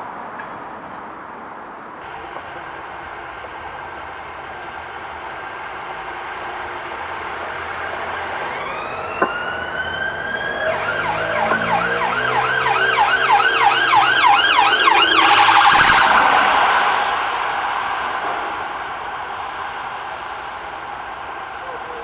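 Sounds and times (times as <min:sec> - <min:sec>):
emergency vehicle siren: 0:02.0 - 0:22.0.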